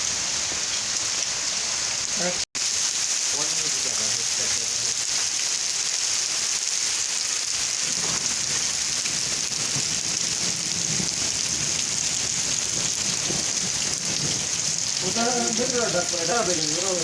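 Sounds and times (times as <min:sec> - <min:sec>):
hiss of rushing water: 0:00.0 - 0:17.0.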